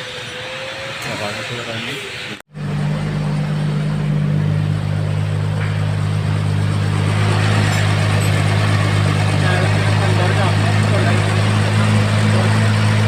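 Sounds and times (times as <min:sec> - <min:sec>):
car engine idling: 0:02.5 - 0:13.0.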